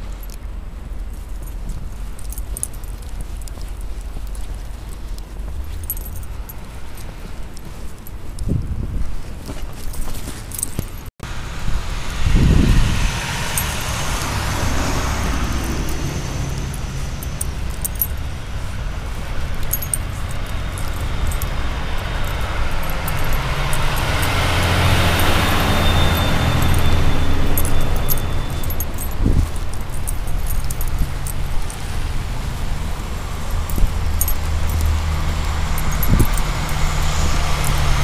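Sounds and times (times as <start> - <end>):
leash clicks and jingles: 0.0 - 11.1, 12.4 - 38.0
motor vehicle rumbling: 0.0 - 38.0.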